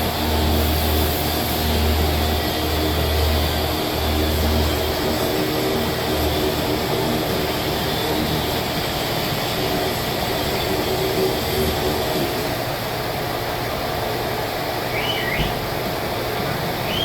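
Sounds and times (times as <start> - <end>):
car wash air rushing: 0.0 - 17.0
low machinery hum: 0.0 - 17.0.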